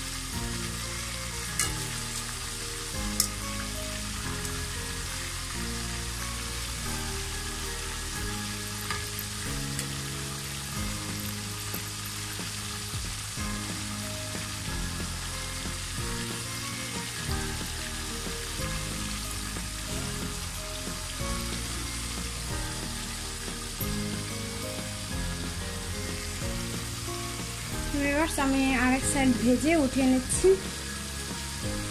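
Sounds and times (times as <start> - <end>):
background music with low notes: 0.0 - 31.9
oil sizzling while deep-frying: 0.0 - 31.9.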